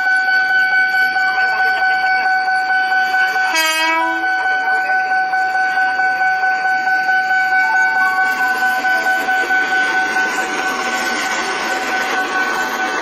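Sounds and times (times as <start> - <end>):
train horn blast: 0.0 - 11.0
electric train passing: 0.0 - 13.0
level crossing warning alarm: 0.0 - 13.0.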